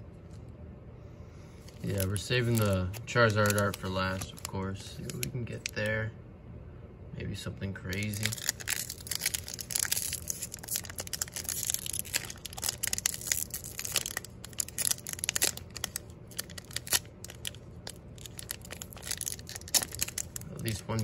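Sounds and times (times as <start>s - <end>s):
foil wrapper crinkling and tearing: 1.7s - 5.8s, 7.9s - 21.0s.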